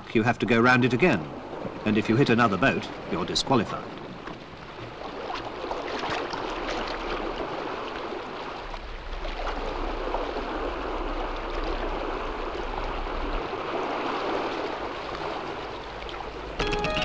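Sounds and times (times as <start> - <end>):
water rushing along hull: 0.0 - 17.0.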